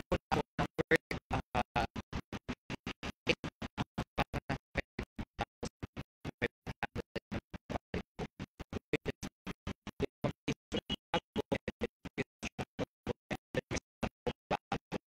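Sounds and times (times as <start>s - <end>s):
broken voice fragments: 0.0s - 15.0s.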